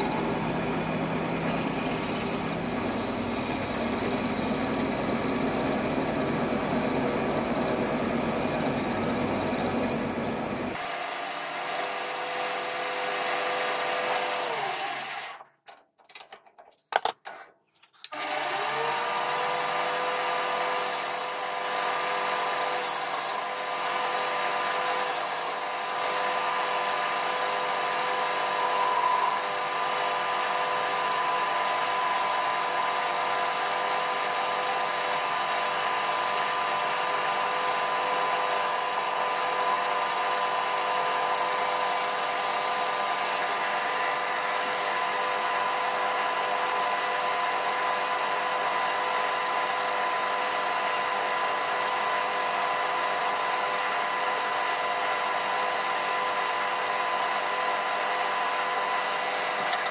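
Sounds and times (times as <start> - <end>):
metal lathe whining: 0.0 - 15.4, 18.2 - 59.9.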